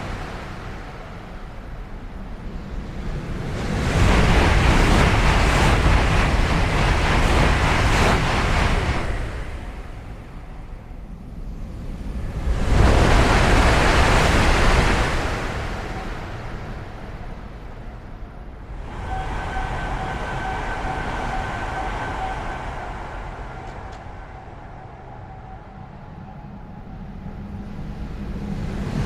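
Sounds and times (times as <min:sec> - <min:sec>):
steady whine: 0:00.0 - 0:29.0
trains passing at speed: 0:00.0 - 0:29.0.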